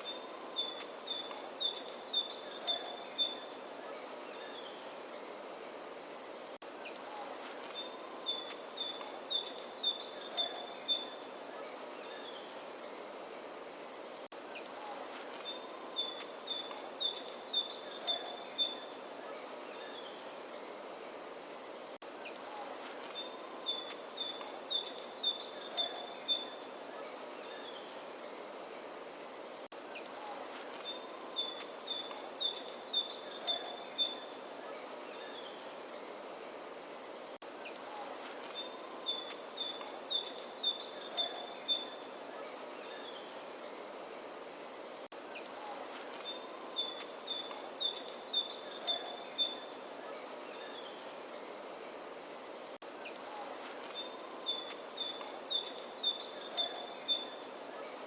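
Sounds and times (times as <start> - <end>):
faint outdoor hiss: 0.0 - 58.0
songbird singing: 0.0 - 58.0.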